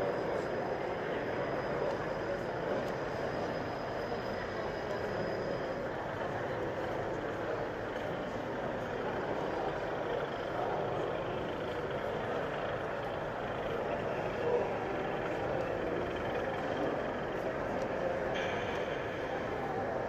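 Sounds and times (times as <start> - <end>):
murmur of distant voices: 0.0 - 20.0.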